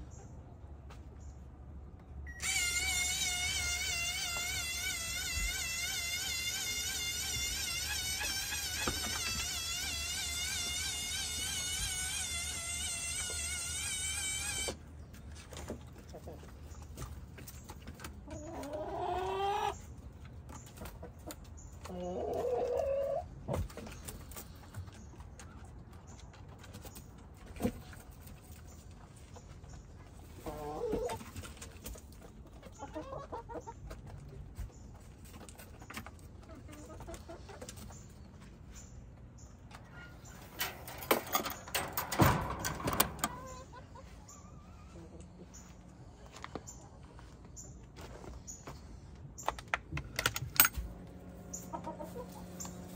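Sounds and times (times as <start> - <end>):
hens clucking: 2.8 - 49.7, 50.9 - 52.9.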